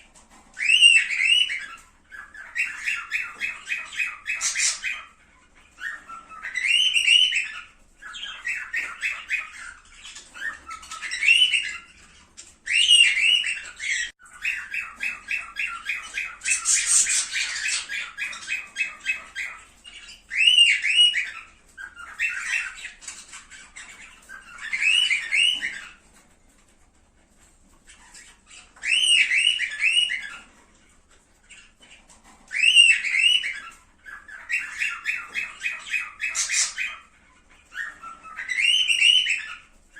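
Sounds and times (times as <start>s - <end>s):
cockatiels calling and chattering: 0.0s - 39.9s.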